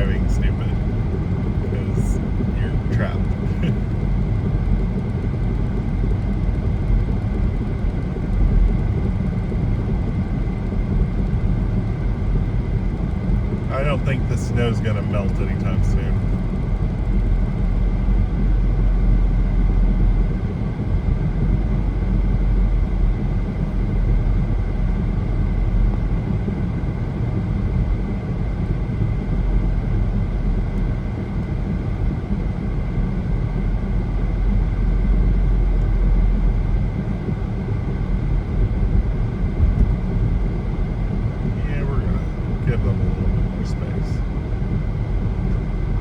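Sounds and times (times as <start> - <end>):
car road and tyre noise: 0.0 - 46.0.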